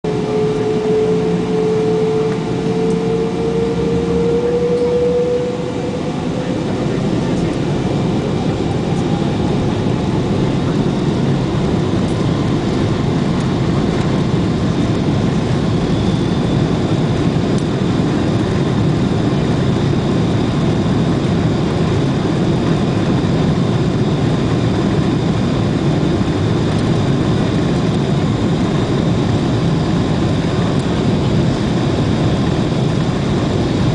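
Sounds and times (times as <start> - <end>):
jet engines spooling up: 0.1 - 33.9.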